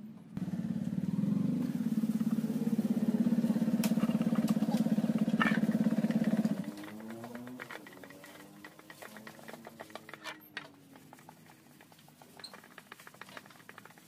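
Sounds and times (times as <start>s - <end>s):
motorcycle engine running: 0.1s - 14.0s.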